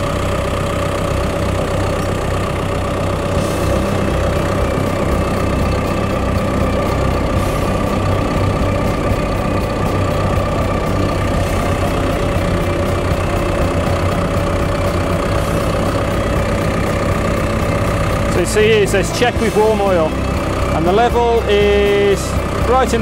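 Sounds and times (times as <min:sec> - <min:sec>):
diesel engine idling: 0:00.0 - 0:23.0
steady engine whine: 0:00.0 - 0:23.0.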